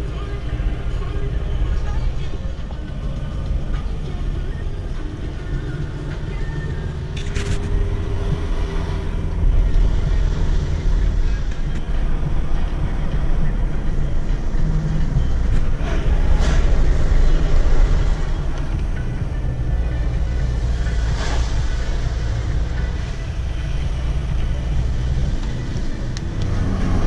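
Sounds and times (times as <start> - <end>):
engine and tyre rumble in cab: 0.0 - 27.0.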